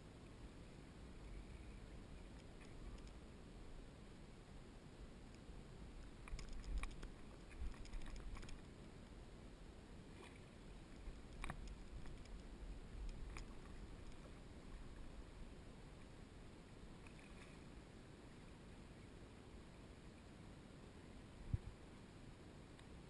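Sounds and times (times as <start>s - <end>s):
faint low rumble: 0.0s - 23.0s.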